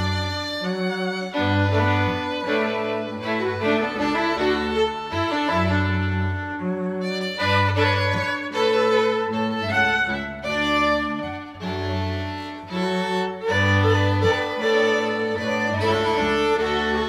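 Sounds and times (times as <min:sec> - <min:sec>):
slow bowed string music: 0:00.0 - 0:17.0.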